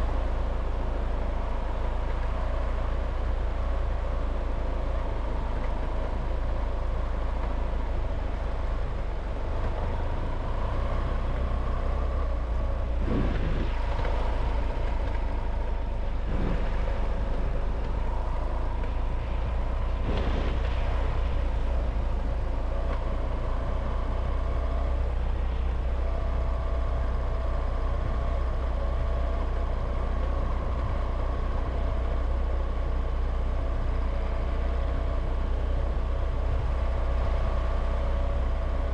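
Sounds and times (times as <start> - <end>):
faint constant whine: 0.0 - 38.9
vehicle engine and road rumble: 0.0 - 38.9.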